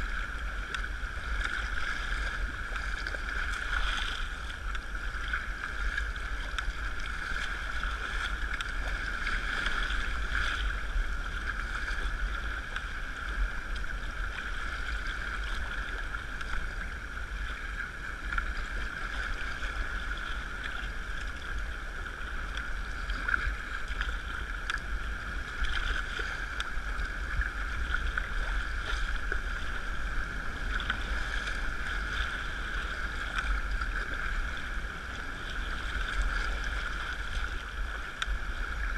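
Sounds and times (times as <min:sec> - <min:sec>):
water washing along hull: 0:00.0 - 0:38.9
wind rumble on microphone: 0:00.0 - 0:38.9.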